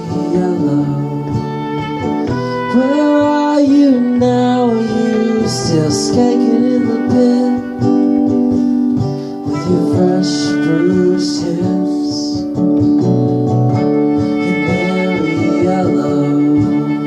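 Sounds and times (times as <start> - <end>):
person singing: 0.0 - 12.9, 13.8 - 17.0
guitar chords: 0.0 - 17.0.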